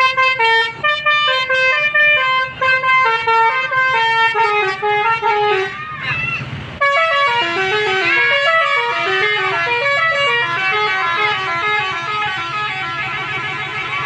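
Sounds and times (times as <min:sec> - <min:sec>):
multi-tone air horn tune: 0:00.0 - 0:05.8, 0:06.8 - 0:14.0.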